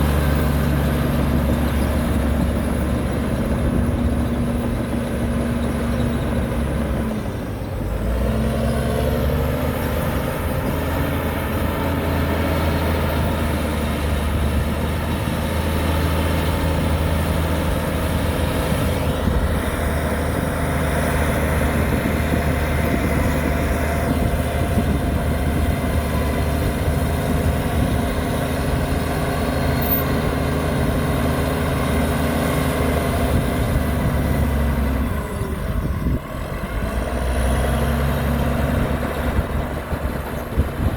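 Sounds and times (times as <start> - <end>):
heavy diesel engine under load: 0.0 - 40.9.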